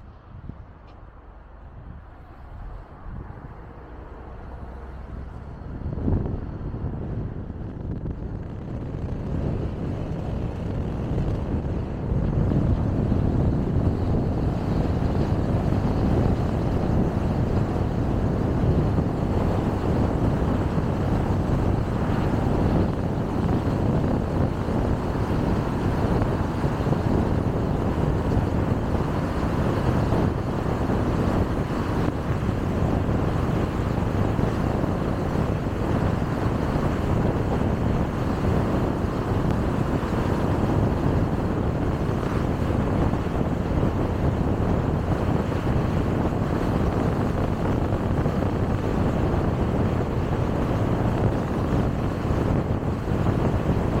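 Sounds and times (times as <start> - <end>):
car engine: 0.0 - 54.0
tyres rumbling on road: 0.0 - 54.0
wind noise: 0.0 - 54.0.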